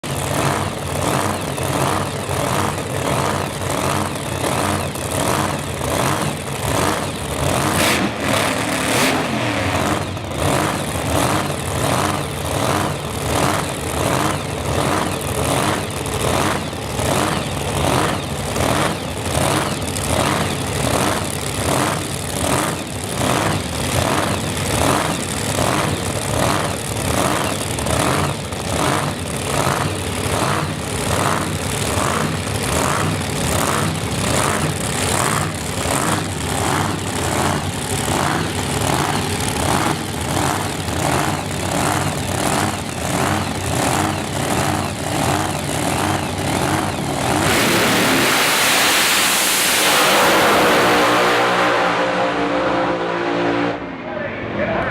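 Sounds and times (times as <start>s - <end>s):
car engine idling with lumpy lope: 0.0s - 48.2s.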